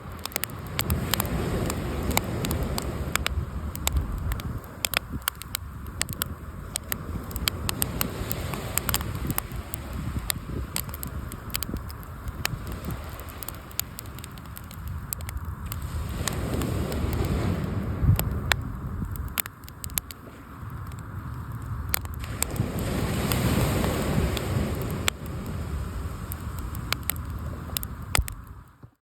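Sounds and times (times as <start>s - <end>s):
waves on the shore: 0.0s - 28.9s
wood fire crackling: 0.0s - 29.0s.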